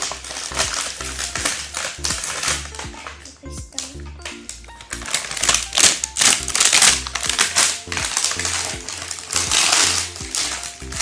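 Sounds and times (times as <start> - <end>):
background music: 0.0 - 11.0
plastic packaging crinkling: 0.0 - 11.0.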